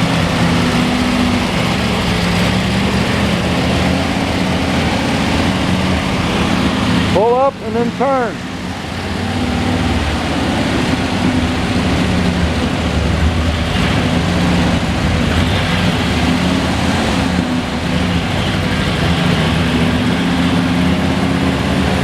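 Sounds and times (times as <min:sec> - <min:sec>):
car engine running at low speed: 0:00.0 - 0:22.0.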